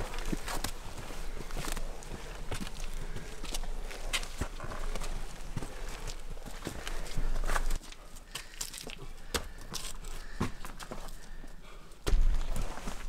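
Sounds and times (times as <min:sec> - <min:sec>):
footsteps crunching on trail: 0:00.0 - 0:13.0.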